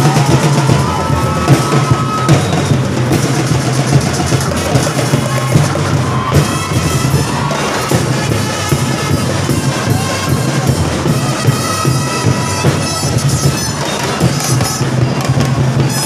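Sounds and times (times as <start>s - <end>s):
drums beating: 0.0s - 16.0s.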